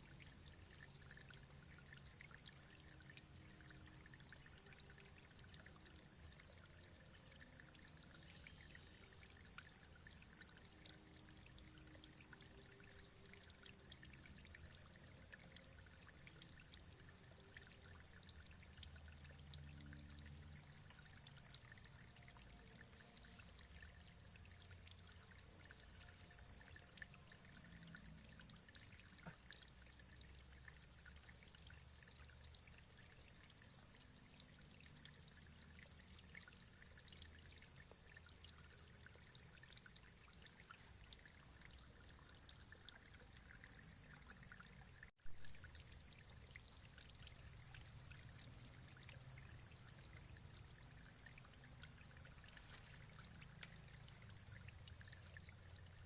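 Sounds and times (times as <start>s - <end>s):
stream trickling with splashes: 0.0s - 56.0s.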